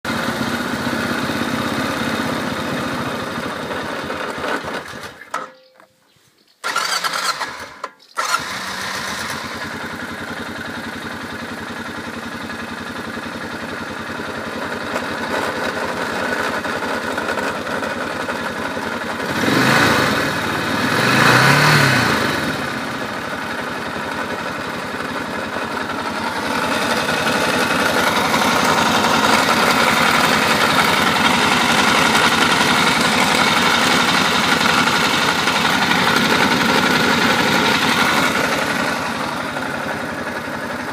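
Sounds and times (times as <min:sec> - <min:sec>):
atv engine running with grinding: 0:00.0 - 0:05.7, 0:06.6 - 0:40.9.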